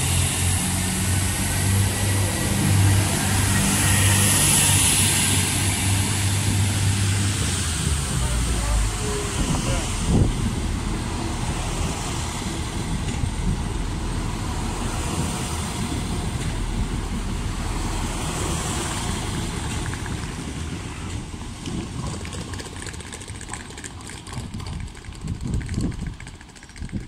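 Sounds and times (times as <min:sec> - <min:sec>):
diesel train engine rumbling: 0:00.0 - 0:27.0.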